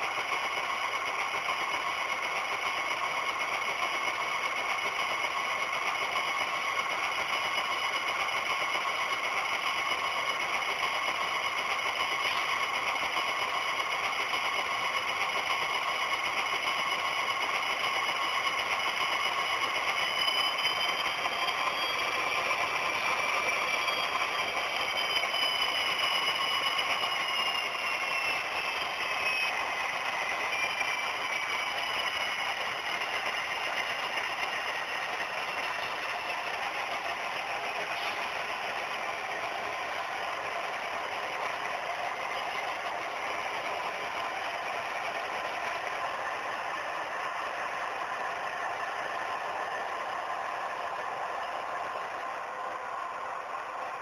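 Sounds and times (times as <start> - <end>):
model train motors whining: 0.0 - 54.0.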